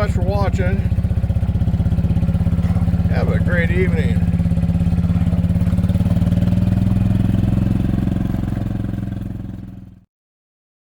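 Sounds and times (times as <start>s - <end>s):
small engine idling: 0.0s - 10.1s.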